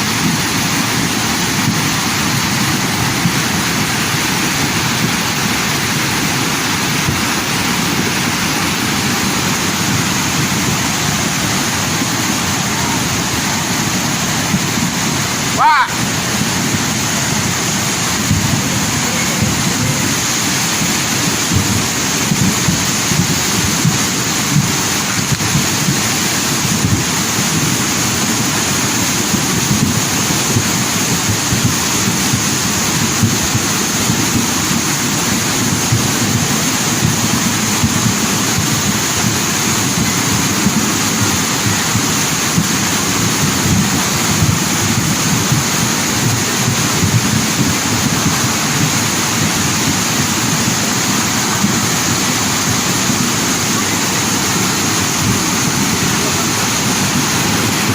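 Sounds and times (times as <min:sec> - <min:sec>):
rushing water: 0:00.0 - 0:57.9.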